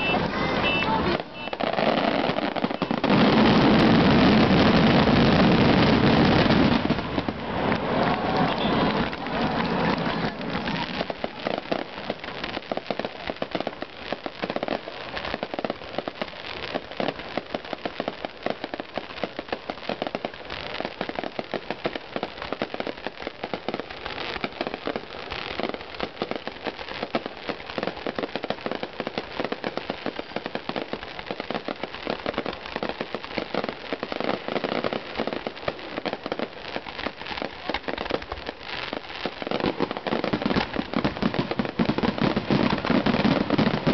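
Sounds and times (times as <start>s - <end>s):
fireworks crackling: 0.0s - 43.9s.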